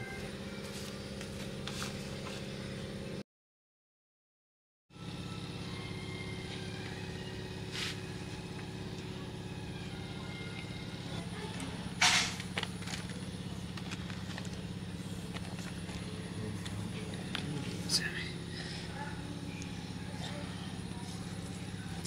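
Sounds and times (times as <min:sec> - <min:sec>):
low engine-like hum: 0:00.0 - 0:03.2, 0:04.9 - 0:22.0.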